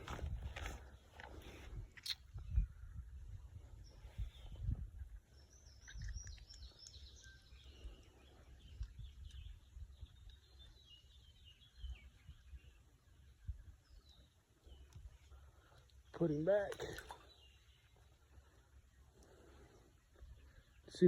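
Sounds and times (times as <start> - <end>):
quiet outdoor background noise: 0.0 - 21.0
songbirds chirping and singing: 0.0 - 21.0.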